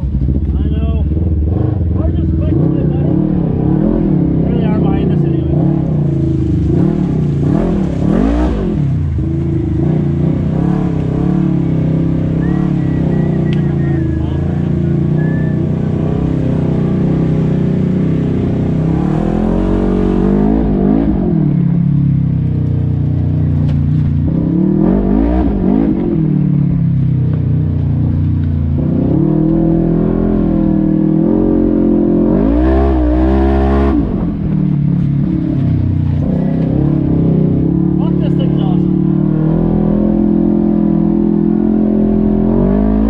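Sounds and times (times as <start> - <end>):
utility vehicle engine revving: 0.0 - 43.0.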